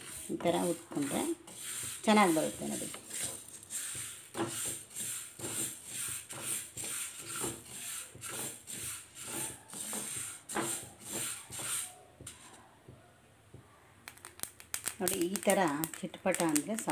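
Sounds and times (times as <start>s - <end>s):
spatula scraping seeds in a pan: 0.0s - 12.5s, 14.8s - 16.9s.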